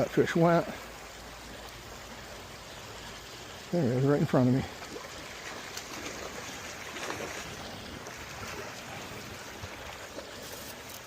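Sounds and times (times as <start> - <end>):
creek water running: 0.0 - 11.0.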